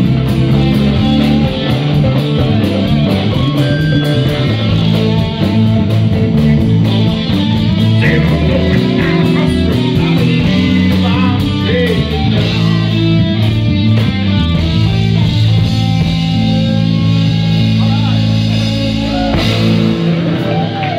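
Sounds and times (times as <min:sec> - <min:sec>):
blues-rock band playing: 0:00.0 - 0:20.9.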